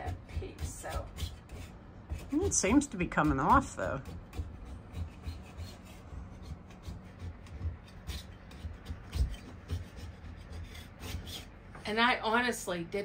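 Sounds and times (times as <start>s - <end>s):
scraper scraping wallpaper: 0.0s - 12.0s.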